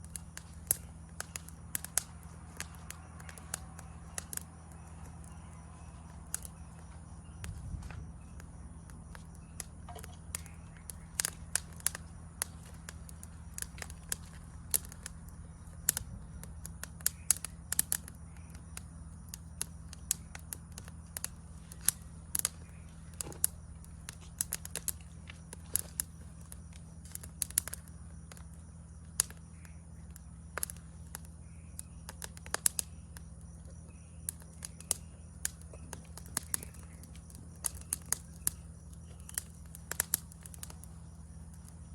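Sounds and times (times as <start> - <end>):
forest insects droning: 0.0 - 41.9
wood fire crackling: 0.0 - 41.9.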